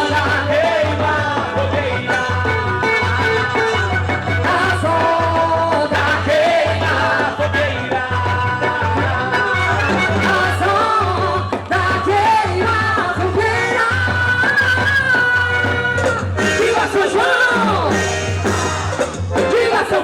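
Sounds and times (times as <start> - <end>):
person singing: 0.0 - 18.2, 19.4 - 20.0.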